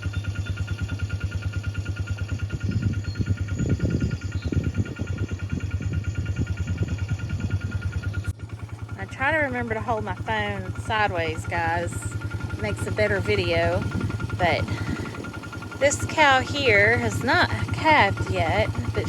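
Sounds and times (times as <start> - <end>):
low irregular rumble: 0.0 - 19.0
vehicle engine idling: 0.0 - 19.0.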